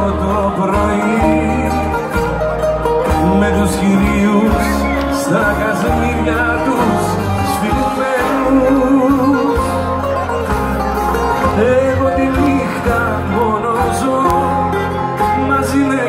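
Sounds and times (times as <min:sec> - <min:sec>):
live band playing: 0:00.0 - 0:16.0
man singing: 0:00.0 - 0:16.0.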